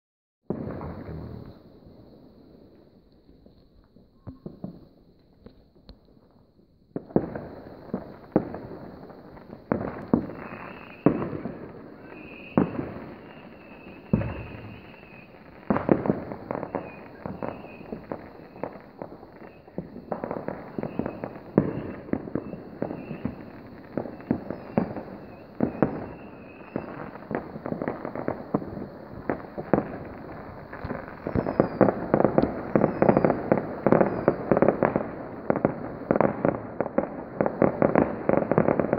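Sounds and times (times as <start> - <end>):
firework crackle: 0.5 - 38.9
fireworks bangs: 0.5 - 38.9.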